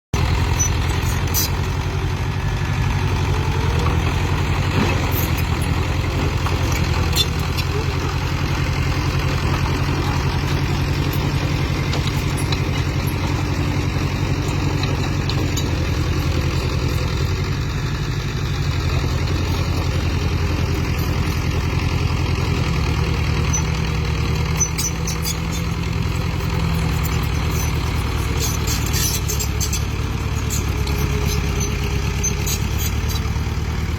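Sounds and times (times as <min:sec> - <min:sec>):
excavator engine running: 0:00.2 - 0:33.9.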